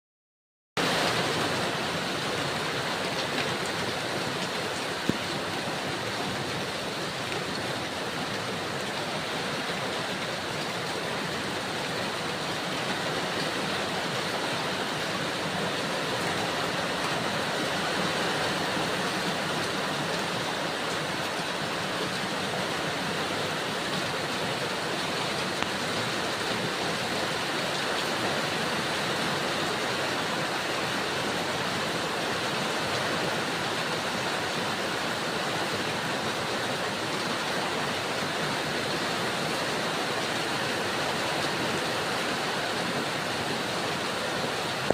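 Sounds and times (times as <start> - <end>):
heavy rain pouring: 0.8 - 44.9.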